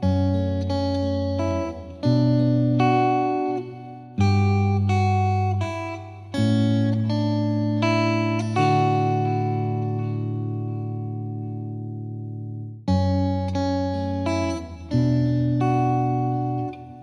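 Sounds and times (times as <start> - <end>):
plucked-string melody: 0.0 - 17.0.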